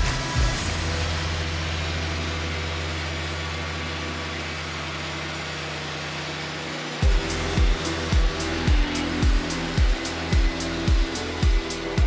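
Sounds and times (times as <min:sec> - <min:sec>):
portable sawmill engine running: 0:00.0 - 0:12.0.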